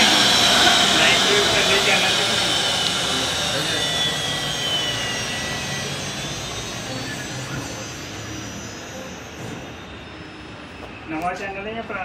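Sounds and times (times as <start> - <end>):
rushing machine noise: 0.0 - 11.0
router spindle high whine: 0.0 - 11.7.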